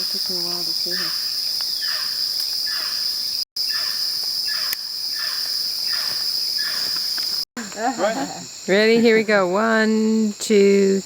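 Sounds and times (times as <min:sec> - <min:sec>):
insect chorus high drone: 0:00.0 - 0:11.0.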